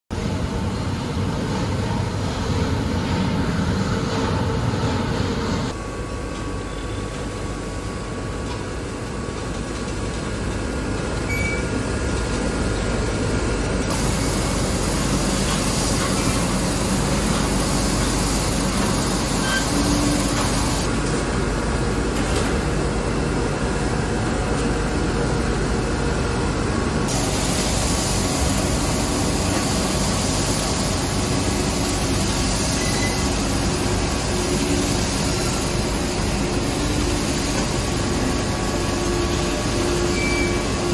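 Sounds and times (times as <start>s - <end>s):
steady machine noise: 0.1s - 40.9s.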